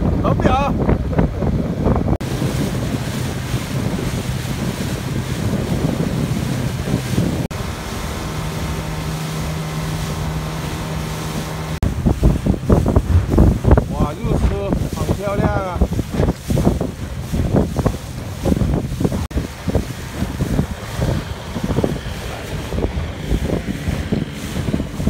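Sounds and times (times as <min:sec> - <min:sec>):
boat engine running: 0:00.0 - 0:25.0
wake rushing: 0:00.0 - 0:25.0
wind buffeting microphone: 0:00.0 - 0:25.0.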